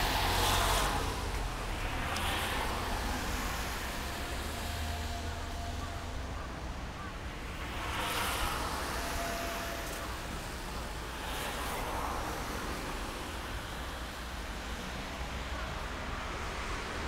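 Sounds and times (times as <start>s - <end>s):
low traffic rumble: 0.0s - 17.0s
vehicles passing: 0.0s - 17.0s.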